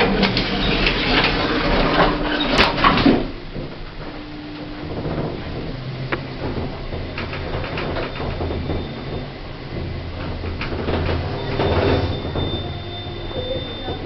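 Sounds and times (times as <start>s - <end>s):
clicks and knocks: 0.0s - 14.0s
lift doors sliding: 0.0s - 14.0s
steady low hum: 0.0s - 14.0s.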